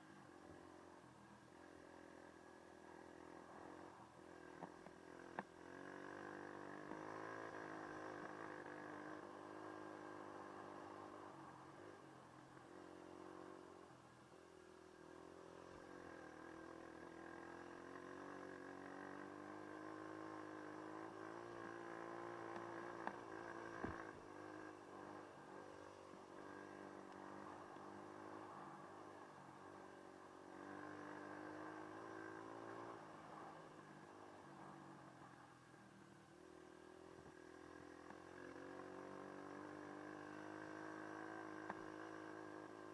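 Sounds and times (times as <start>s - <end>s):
faint dirt bike engine: 0.0s - 42.9s.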